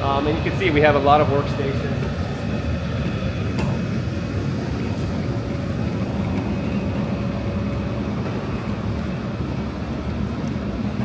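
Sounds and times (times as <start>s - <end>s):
faint steady hum: 0.0s - 11.0s
low rumble of workshop machines: 0.0s - 11.0s.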